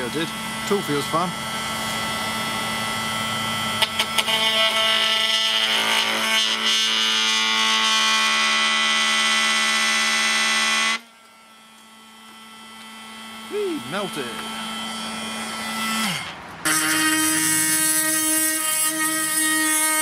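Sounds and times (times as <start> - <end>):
oscillating tool buzzing: 0.0 - 20.0.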